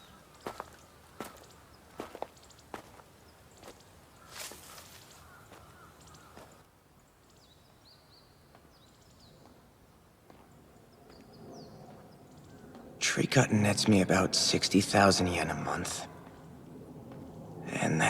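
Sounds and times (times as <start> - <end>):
faint outdoor ambience: 0.0 - 18.0.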